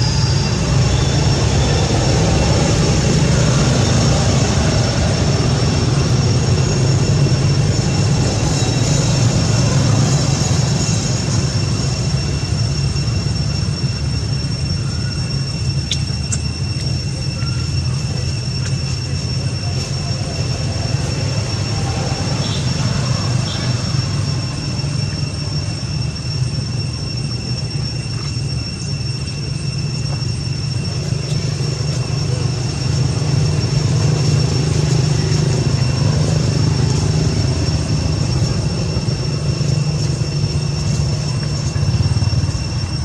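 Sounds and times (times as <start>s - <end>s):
steady low rumble: 0.0s - 43.0s
thin high-pitched whine: 0.0s - 43.0s.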